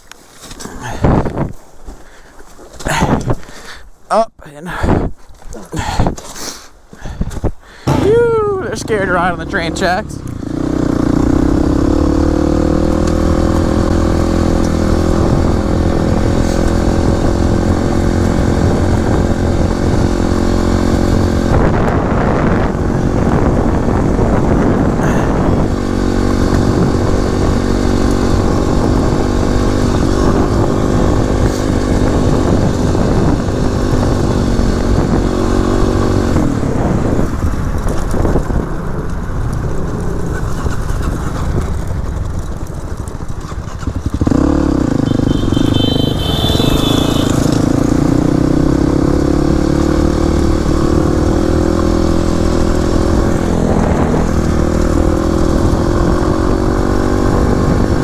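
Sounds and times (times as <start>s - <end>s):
motorcycle engine running: 7.8s - 58.0s.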